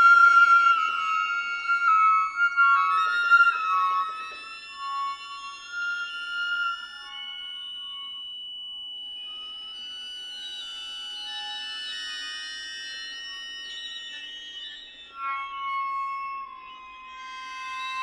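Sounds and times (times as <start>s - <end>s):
chamber music high sustained tones: 0.0s - 18.0s.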